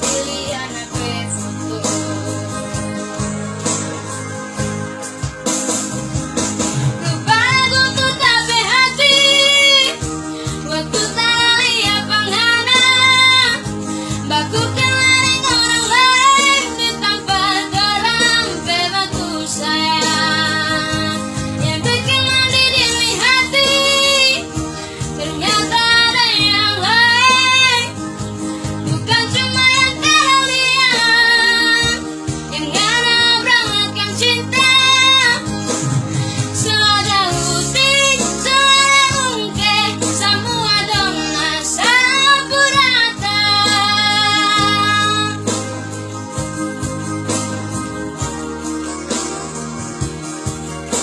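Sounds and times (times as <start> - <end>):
instrumental accompaniment: 0.0 - 51.0.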